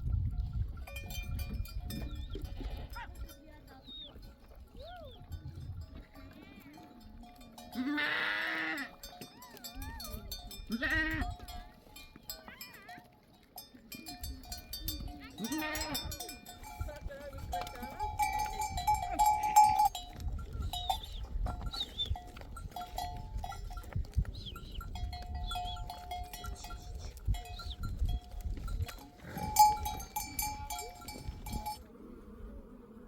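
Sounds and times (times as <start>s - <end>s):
sheep and goat bells clanking: 0.0s - 31.9s.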